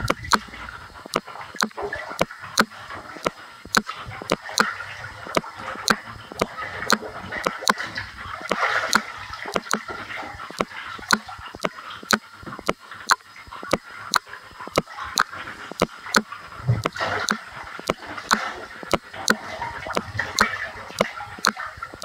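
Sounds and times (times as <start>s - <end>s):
bathwater sloshing and splashing: 0.0s - 22.0s
sharp irregular clicks and taps: 0.0s - 22.0s.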